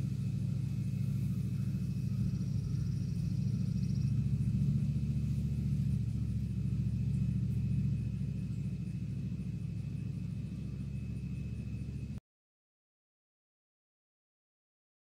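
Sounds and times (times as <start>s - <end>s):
faint high whine: 0.0s - 12.2s
low motor drone: 0.0s - 12.2s.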